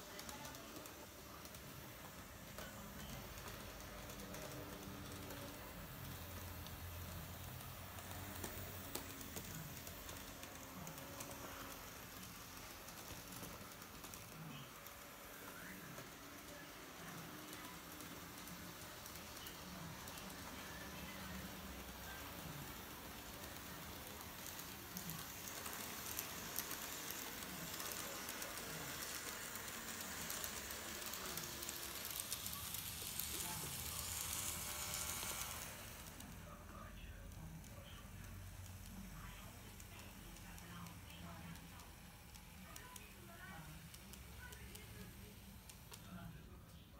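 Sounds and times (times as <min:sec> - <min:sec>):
model train wheels clicking: 0:00.0 - 0:46.3.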